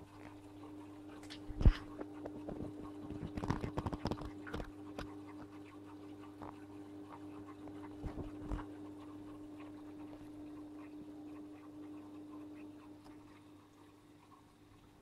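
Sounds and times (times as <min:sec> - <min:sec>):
aquarium filter humming: 0:00.0 - 0:15.0.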